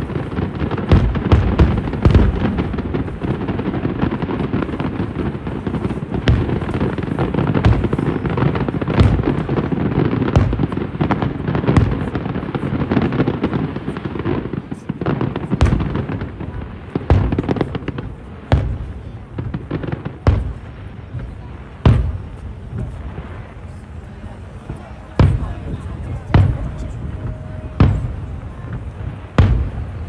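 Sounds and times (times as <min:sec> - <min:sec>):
fireworks booming and cracking: 0:00.0 - 0:30.0.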